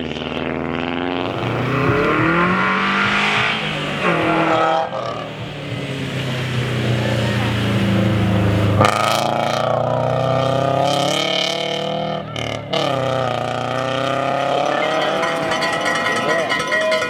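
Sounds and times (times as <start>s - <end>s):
rally car engine running hard: 0.0s - 17.0s.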